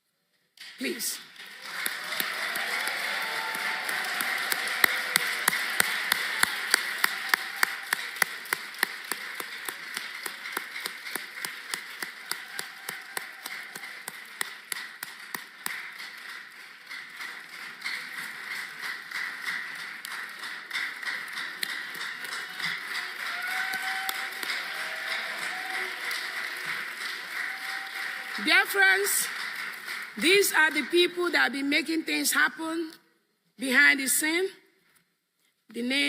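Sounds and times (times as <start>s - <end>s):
rhythmic clapping: 0.6s - 32.4s
audience applauding: 1.3s - 31.4s.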